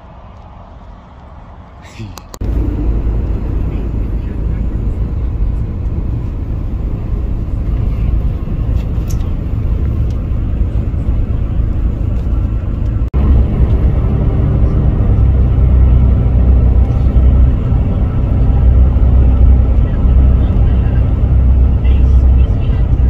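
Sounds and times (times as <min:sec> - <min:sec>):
vehicle road and engine rumble: 0:00.0 - 0:23.0.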